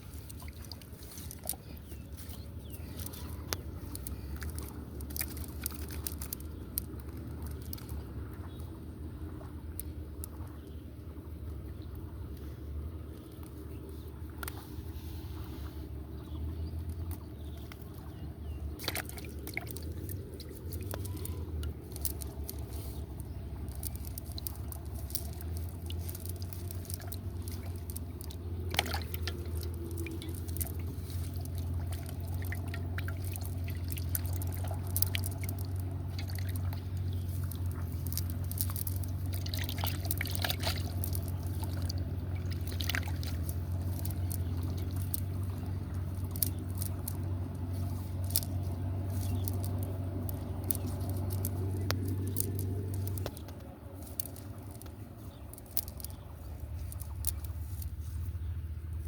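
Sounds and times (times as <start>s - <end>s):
water splashing and dripping: 0.0s - 58.2s
steady low hum: 0.0s - 59.0s.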